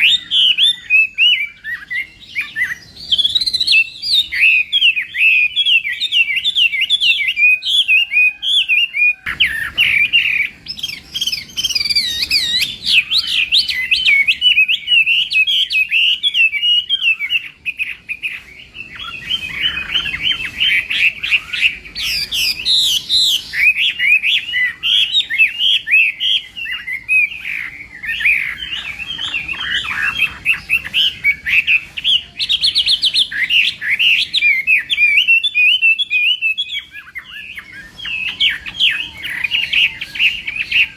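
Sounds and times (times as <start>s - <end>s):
bird singing whistled warbles: 0.0s - 40.9s.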